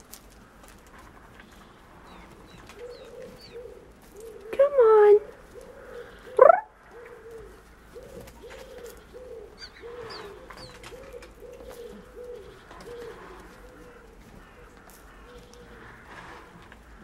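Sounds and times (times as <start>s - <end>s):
bird cooing: 2.1s - 16.6s.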